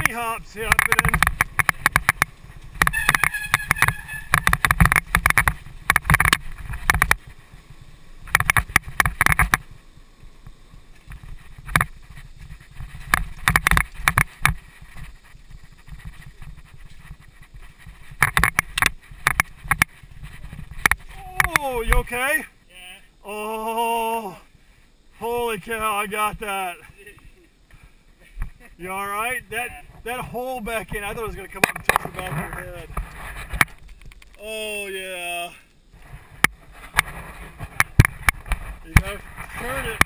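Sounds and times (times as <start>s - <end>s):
mountain bike rattling on dirt trail: 0.0s - 22.4s, 27.8s - 40.0s.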